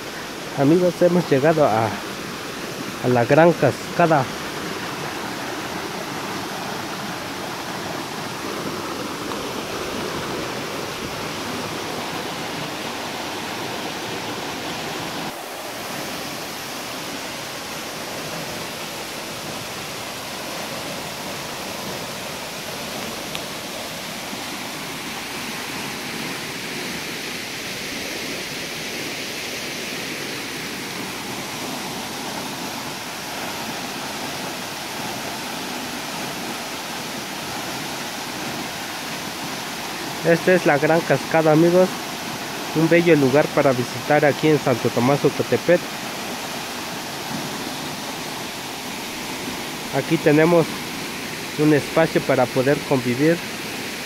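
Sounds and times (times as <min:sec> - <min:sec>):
rocky stream flowing: 0:00.0 - 0:54.0
waterfall onto rocks: 0:00.0 - 0:54.0.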